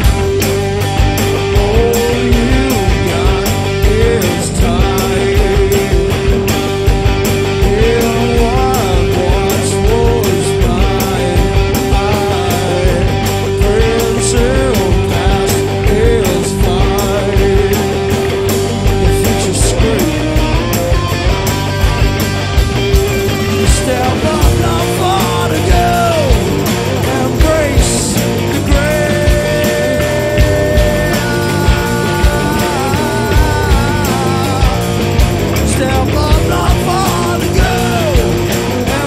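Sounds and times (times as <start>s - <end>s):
bass: 0.0s - 39.0s
drum hits: 0.0s - 39.0s
lead guitar bending notes: 0.0s - 39.0s.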